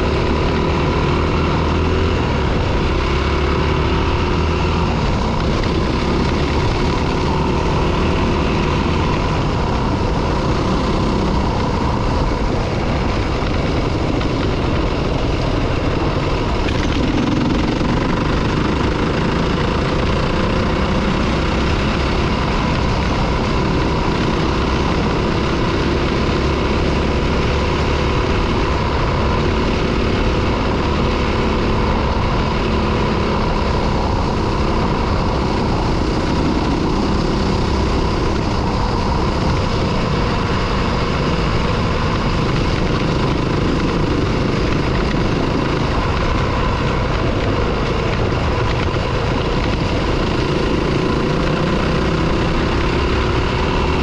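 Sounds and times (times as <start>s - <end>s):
dirt bike engine running: 0.0s - 54.0s
wind noise: 0.0s - 54.0s.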